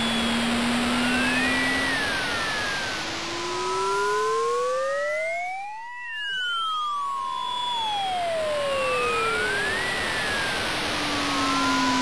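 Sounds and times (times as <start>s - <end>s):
electronic tones sliding in pitch: 0.0s - 12.0s.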